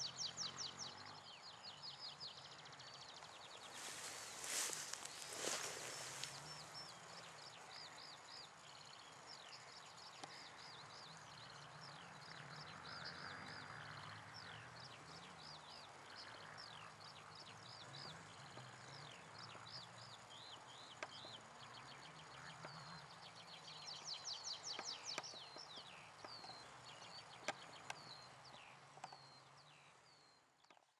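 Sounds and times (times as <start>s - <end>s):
songbirds chirping: 0.0s - 30.9s.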